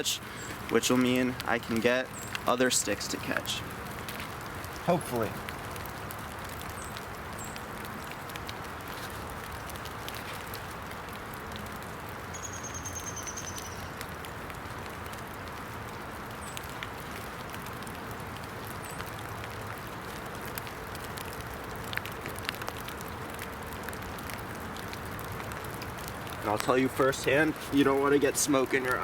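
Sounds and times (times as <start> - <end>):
rain falling in woods: 0.0 - 29.0
twig fire crackling: 0.0 - 29.0.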